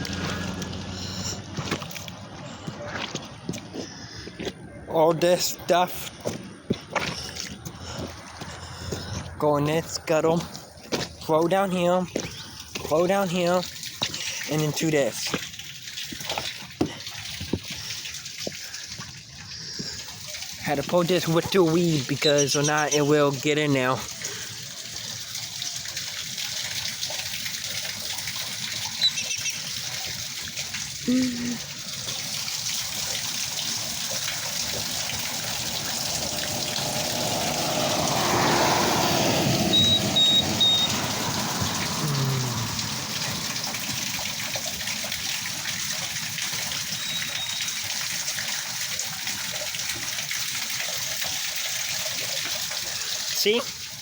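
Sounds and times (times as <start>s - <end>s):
water gushing down drain: 7.0s - 54.0s.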